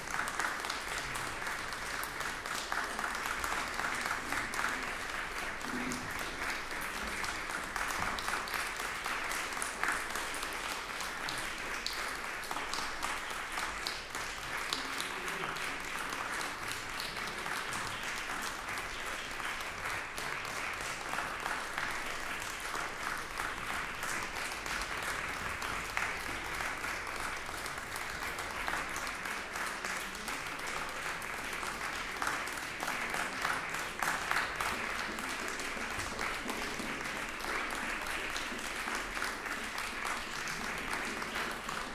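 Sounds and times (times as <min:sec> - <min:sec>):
audience applauding: 0:00.0 - 0:41.9.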